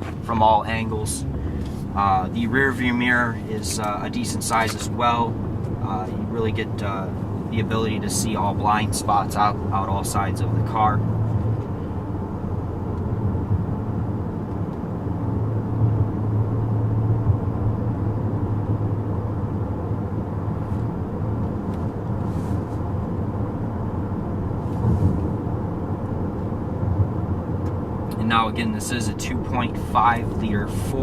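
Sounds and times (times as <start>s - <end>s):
car engine humming: 0.0s - 31.0s
road noise inside car: 0.0s - 31.0s.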